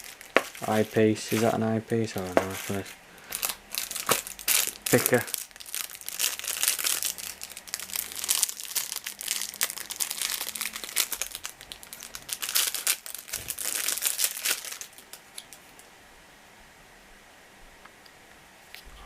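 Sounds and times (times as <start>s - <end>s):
packaging crinkling: 0.0s - 15.8s.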